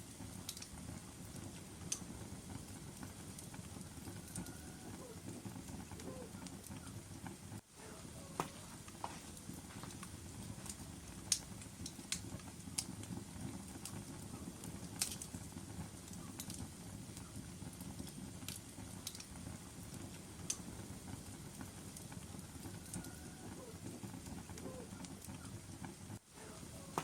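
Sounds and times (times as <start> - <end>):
fire rumbling: 0.0 - 27.0
logs crackling and popping: 0.0 - 27.0.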